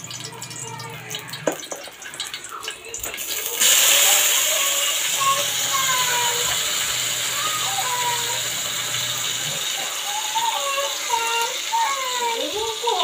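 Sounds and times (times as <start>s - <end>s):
garlic frying in oil: 0.0s - 13.0s
loud steady sizzle of meat: 0.0s - 13.0s.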